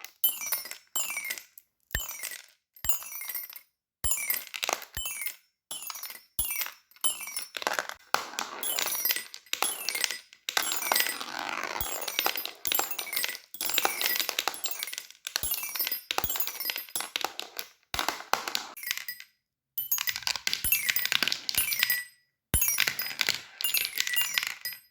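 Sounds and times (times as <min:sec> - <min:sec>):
fidget toys clicking and clinking: 0:00.0 - 0:24.9.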